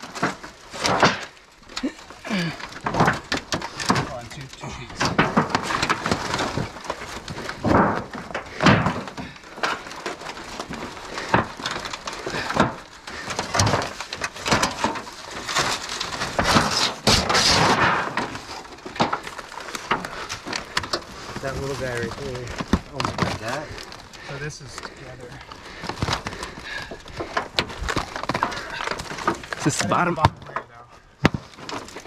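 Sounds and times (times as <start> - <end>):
dry wood and brush crunching: 0.0 - 32.0
sharp wood cracks: 0.0 - 32.0.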